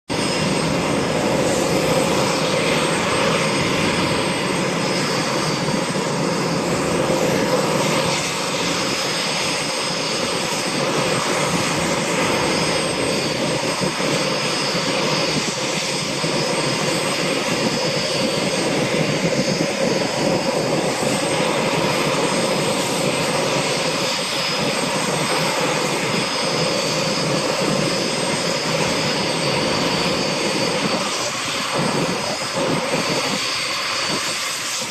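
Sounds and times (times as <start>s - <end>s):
helicopter engines with turbine whine: 0.0s - 34.9s.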